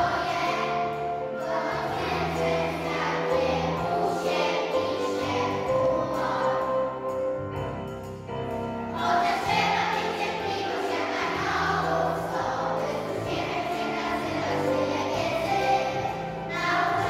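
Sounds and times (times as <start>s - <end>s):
children's choir singing: 0.0s - 7.2s, 8.9s - 17.0s.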